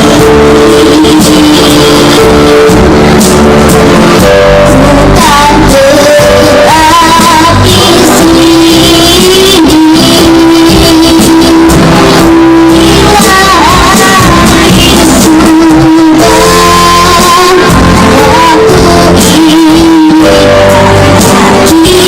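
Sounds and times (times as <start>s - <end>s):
backing music with guitar: 0.0s - 22.0s.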